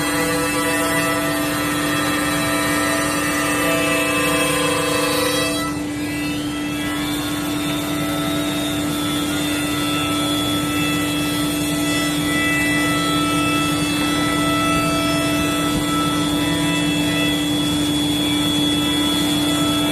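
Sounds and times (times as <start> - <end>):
cnc router spindle whine: 0.0 - 19.9
machine noise: 0.0 - 19.9.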